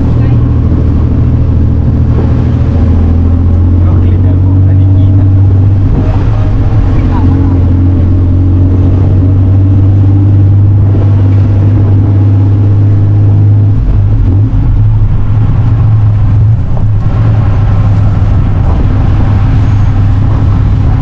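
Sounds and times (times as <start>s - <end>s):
motor vehicle rumbling: 0.0s - 21.0s.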